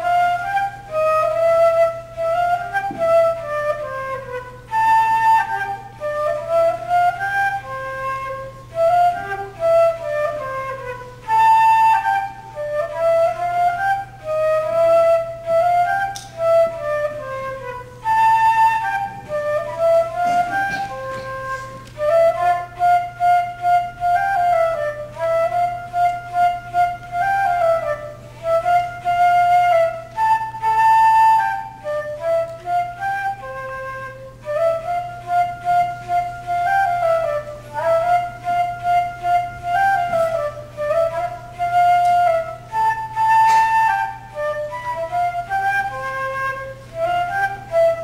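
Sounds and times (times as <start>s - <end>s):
flute melody: 0.0s - 48.0s.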